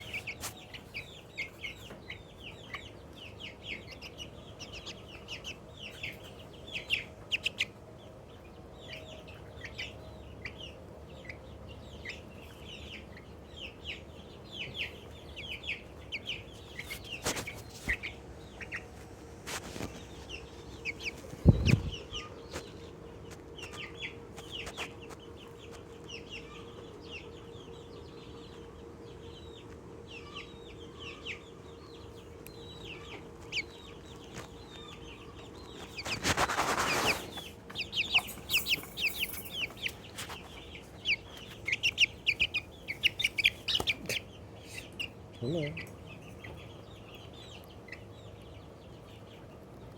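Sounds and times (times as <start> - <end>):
chick chirping: 0.0 - 49.9.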